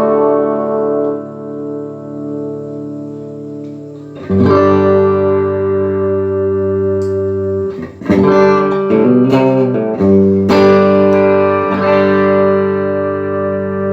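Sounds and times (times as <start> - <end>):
electric guitar chords: 0.0 - 13.9.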